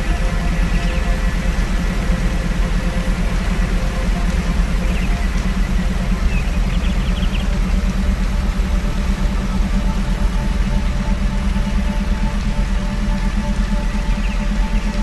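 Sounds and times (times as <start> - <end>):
constant rushing noise: 0.0 - 15.0
low electronic hum: 0.0 - 15.0.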